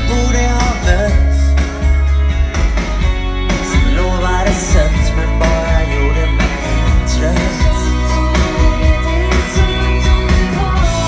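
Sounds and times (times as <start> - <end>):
lead vocal singing: 0.0 - 1.6, 3.6 - 11.0
live pop-rock band: 0.0 - 11.0.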